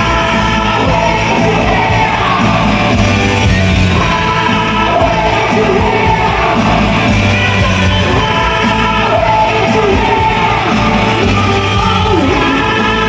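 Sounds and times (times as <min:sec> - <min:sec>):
person singing: 0:00.0 - 0:13.0
rock backing music: 0:00.0 - 0:13.0.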